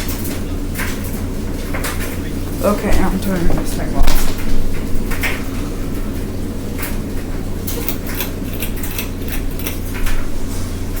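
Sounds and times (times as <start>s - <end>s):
wobbling fan clicks: 0.0s - 10.3s
ceiling fan humming: 0.0s - 11.0s.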